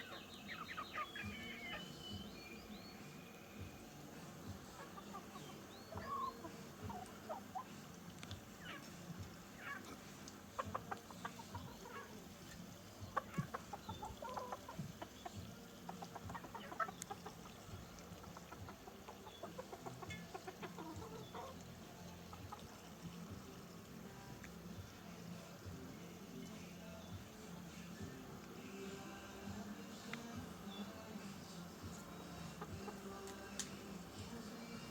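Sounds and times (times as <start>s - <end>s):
chickens clucking softly: 0.0s - 29.0s, 29.6s - 34.9s.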